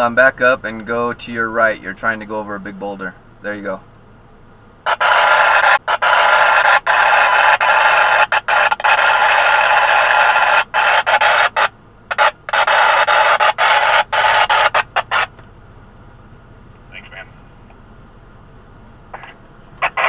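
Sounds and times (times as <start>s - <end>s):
two-way radio static hiss: 0.0s - 15.4s, 16.8s - 17.7s, 19.1s - 20.0s.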